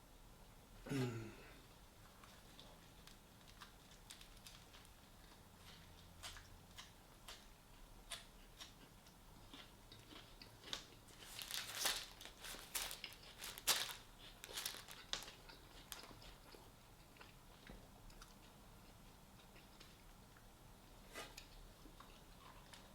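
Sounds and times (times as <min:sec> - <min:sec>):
person chewing and crunching food: 0:02.0 - 0:20.5, 0:21.1 - 0:22.9.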